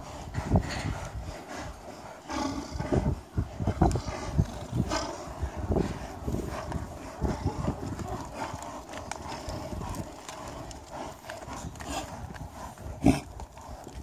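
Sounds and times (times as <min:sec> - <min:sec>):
hooves stepping on stony dirt: 0:00.0 - 0:14.0.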